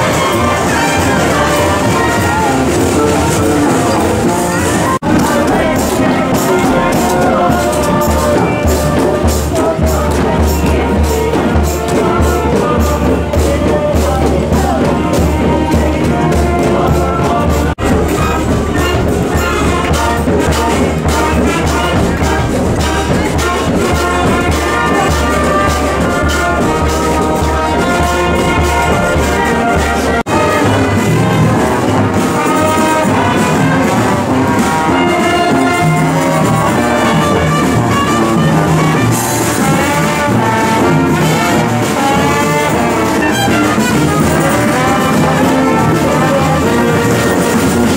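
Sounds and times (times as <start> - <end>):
brass band playing: 0.0 - 47.9
steady drum beat: 0.0 - 47.9.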